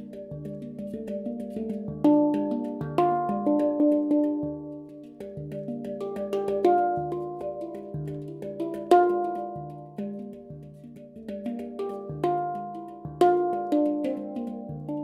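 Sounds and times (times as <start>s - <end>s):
handpan notes ringing: 0.0s - 15.0s.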